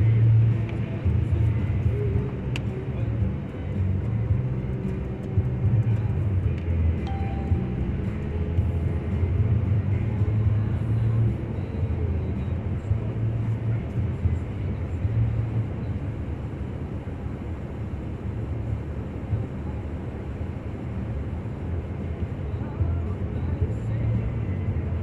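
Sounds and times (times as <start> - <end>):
engine and tyre rumble: 0.0 - 25.0
road noise hiss: 0.0 - 25.0.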